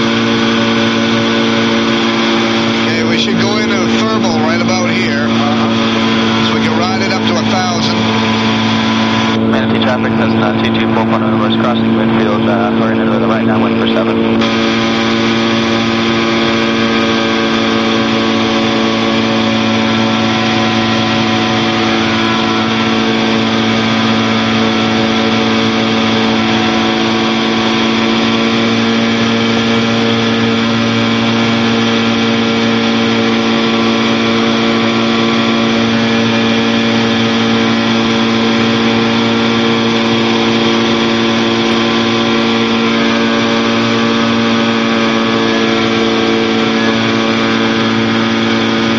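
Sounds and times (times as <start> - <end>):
light aircraft engine and propeller: 0.0 - 48.9.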